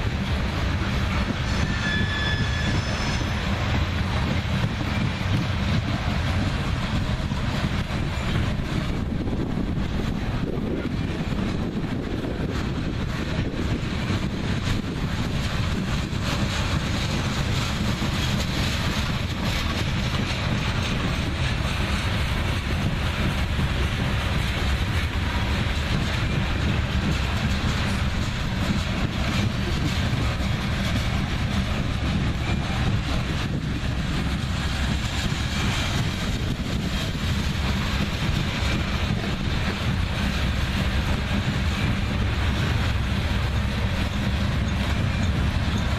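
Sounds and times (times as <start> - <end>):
freight train wheels rumbling: 0.0 - 45.9
wind on microphone: 0.0 - 45.9.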